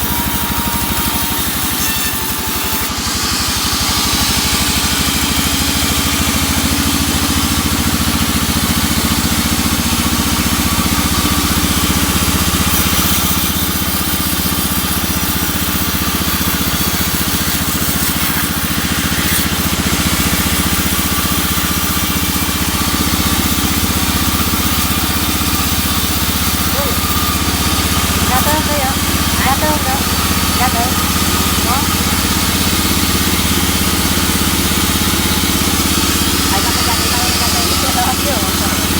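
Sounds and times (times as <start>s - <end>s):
engine running steadily: 2.8s - 38.9s.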